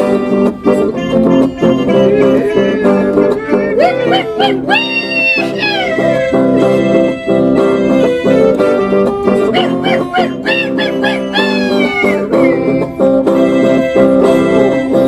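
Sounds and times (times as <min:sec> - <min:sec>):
folk dance music with regular beat: 0:00.0 - 0:15.0
high wavering cry: 0:00.1 - 0:15.0.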